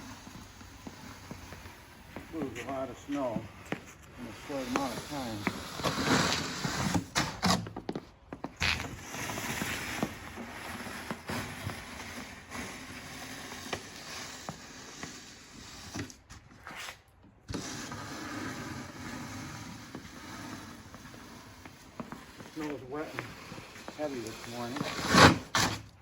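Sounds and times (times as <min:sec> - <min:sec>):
snow plow blade scraping snow: 0:00.0 - 0:07.6, 0:08.6 - 0:16.9, 0:17.5 - 0:25.9.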